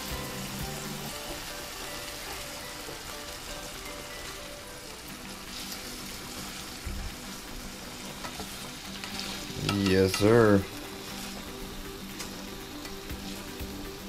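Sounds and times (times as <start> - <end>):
chicken sizzling in frying pan: 0.0 - 14.0
soft background music: 0.0 - 14.0.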